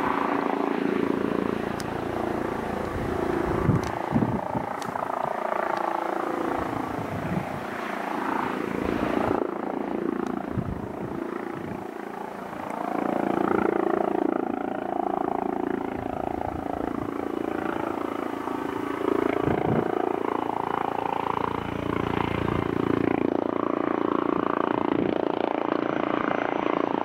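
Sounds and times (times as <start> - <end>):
helicopter in flight: 0.0 - 27.0.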